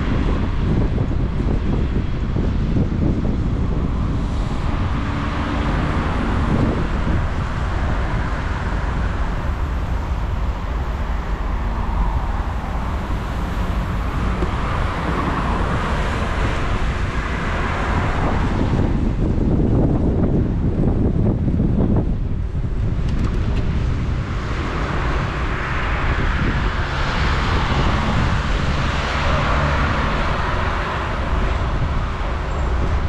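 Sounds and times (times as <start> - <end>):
low rumble of road traffic: 0.0 - 33.0
wind rushing over microphone: 0.0 - 33.0.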